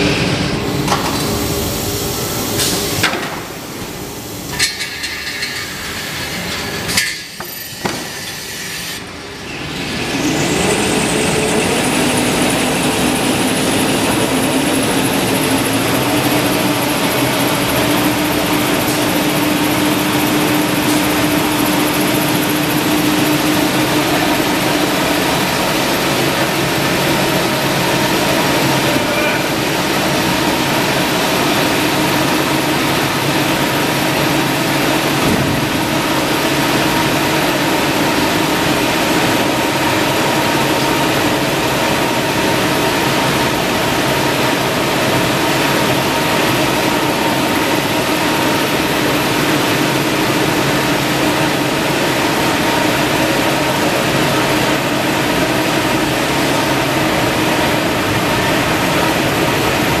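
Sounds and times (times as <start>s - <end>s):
machine hum with hiss: 0.0s - 60.0s.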